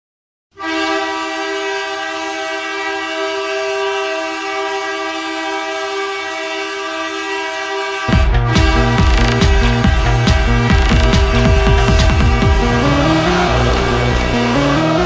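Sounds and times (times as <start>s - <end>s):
goal horn blast: 0.6s - 15.0s.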